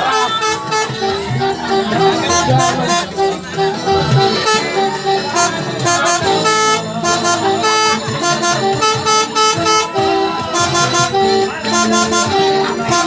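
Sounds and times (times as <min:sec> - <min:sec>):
multi-tone bus air horn tune: 0:00.0 - 0:13.0.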